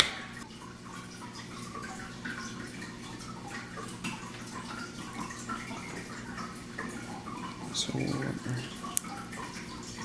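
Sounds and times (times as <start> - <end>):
faint steady hum: 0.0 - 10.0
liquid trickling into bowl: 0.3 - 10.0.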